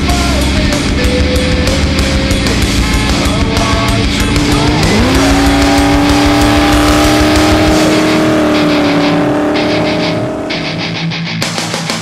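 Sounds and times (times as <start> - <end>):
pickup engines at full throttle: 0.0 - 12.0.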